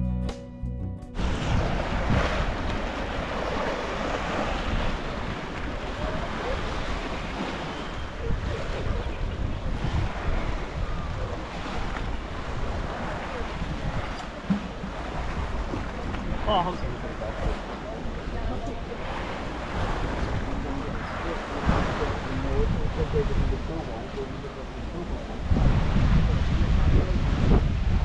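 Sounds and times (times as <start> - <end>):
lake water washing ashore: 1.2 - 28.0
wind buffeting microphone: 1.2 - 28.0.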